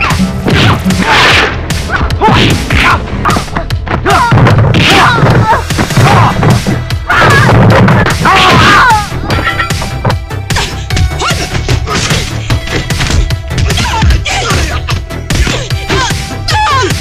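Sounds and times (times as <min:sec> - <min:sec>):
punch and kick impacts: 0:00.0 - 0:08.9, 0:10.5 - 0:16.2
fighters shouting: 0:00.0 - 0:09.3, 0:11.1 - 0:13.0, 0:13.6 - 0:17.0
film score music: 0:00.0 - 0:17.0.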